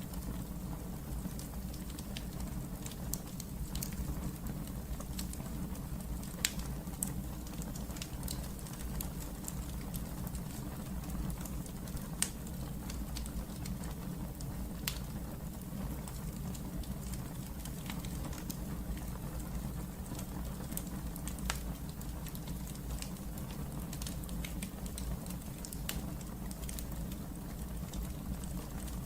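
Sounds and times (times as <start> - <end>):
fire crackles and pops: 0.0 - 29.0
fire flames rumbling: 0.0 - 29.0.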